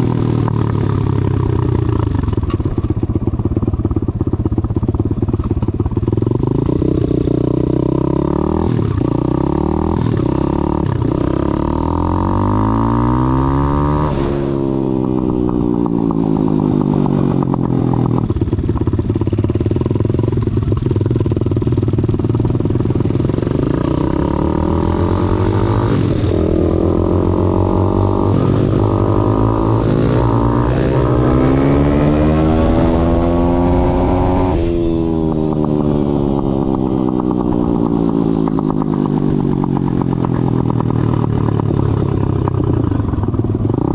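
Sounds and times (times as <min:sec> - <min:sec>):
motorbike engine revving: 0:05.4 - 0:43.9.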